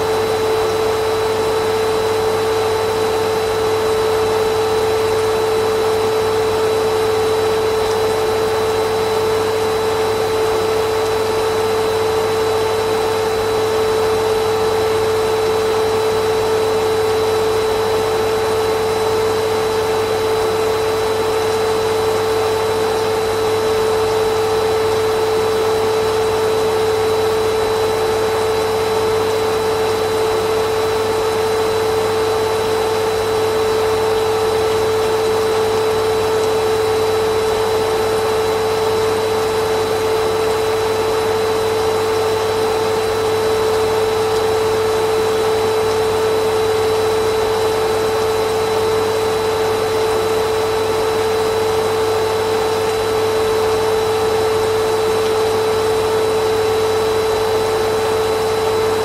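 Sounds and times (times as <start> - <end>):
vacuum cleaner motor running: 0.0 - 59.0.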